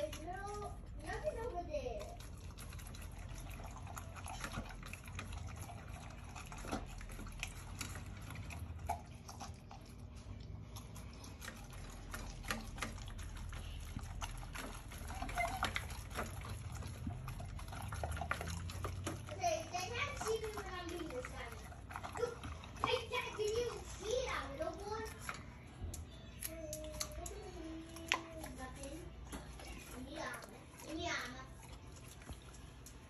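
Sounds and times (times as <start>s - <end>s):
dog chewing wetly: 0.0s - 33.0s.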